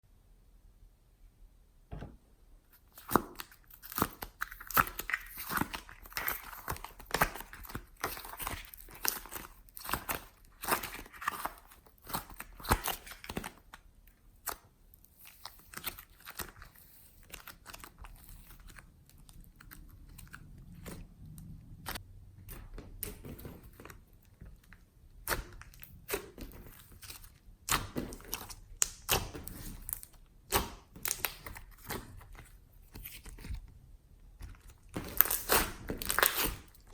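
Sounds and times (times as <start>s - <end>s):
slime squishing: 2.7s - 36.9s.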